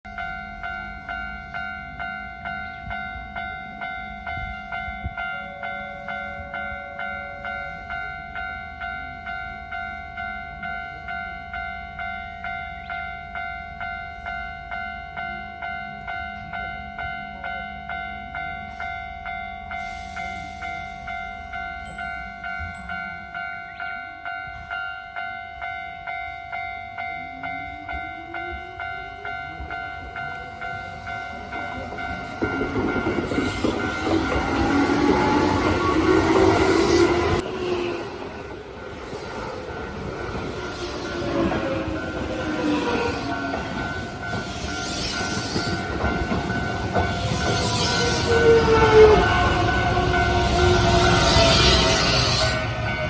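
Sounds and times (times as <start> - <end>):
electric train rumbling past: 0.1 - 53.0.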